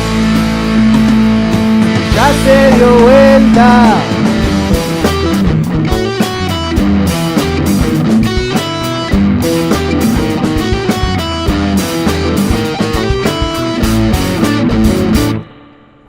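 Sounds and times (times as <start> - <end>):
rock band playing: 0.0 - 15.9
electric guitar melody: 0.0 - 16.0.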